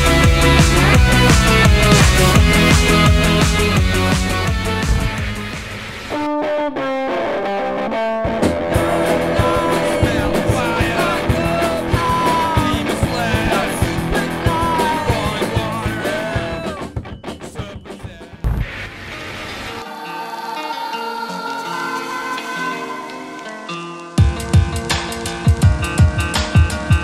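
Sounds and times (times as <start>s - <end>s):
rock band playing: 0.0s - 18.2s, 22.8s - 27.0s
sparse guitar notes: 0.0s - 25.1s.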